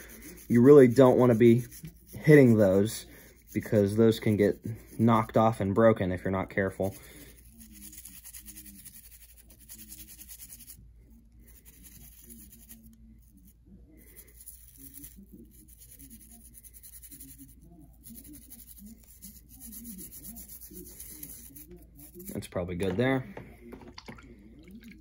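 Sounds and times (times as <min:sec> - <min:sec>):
brush scrubbing: 0:00.0 - 0:12.9, 0:14.0 - 0:24.1.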